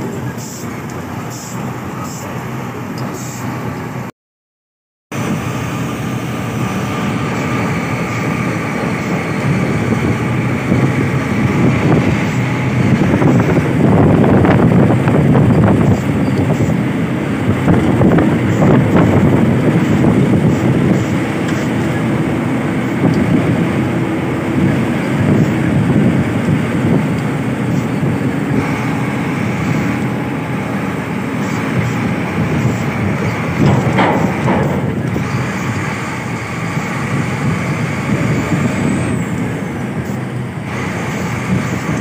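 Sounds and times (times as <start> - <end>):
diesel engine running: 0.0 - 4.1, 5.1 - 42.0
tyre and wind rumble: 5.2 - 42.0.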